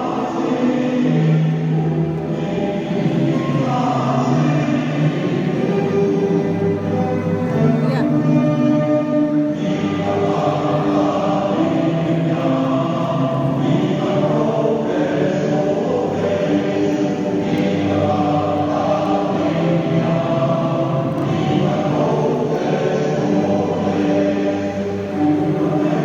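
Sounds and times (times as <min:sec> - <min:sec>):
choir singing long notes: 0:00.0 - 0:26.0.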